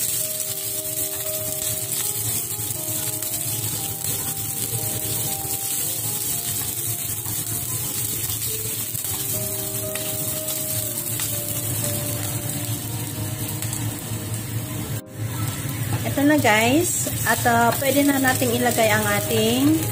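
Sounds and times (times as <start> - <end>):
food sizzling in hot oil: 0.0 - 19.9
music of sustained notes: 0.0 - 19.9.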